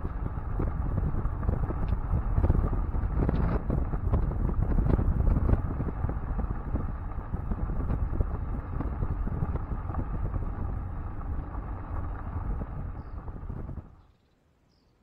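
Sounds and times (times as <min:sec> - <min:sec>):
low road rumble: 0:00.0 - 0:14.3
tyres crunching over gravel: 0:00.2 - 0:14.0.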